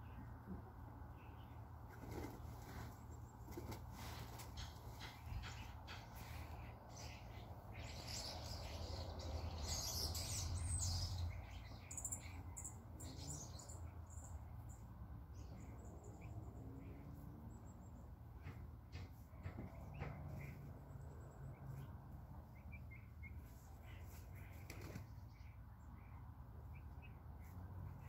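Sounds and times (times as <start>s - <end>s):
birds chirping: 1.1s - 28.0s.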